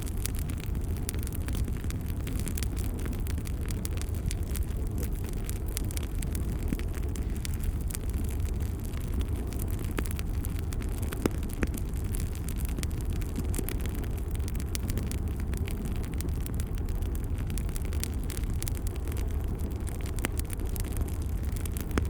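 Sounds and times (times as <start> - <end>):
fire popping and crackling: 0.0 - 22.0
fire rumbling: 0.0 - 22.0.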